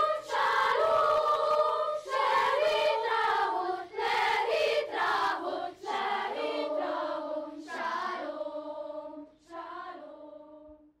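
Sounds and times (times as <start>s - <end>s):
choir singing held notes: 0.0s - 10.8s.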